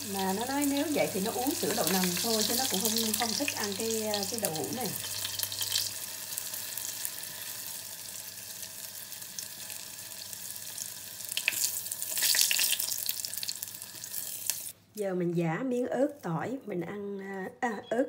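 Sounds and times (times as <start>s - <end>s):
tofu sizzling in hot oil: 0.0s - 14.8s.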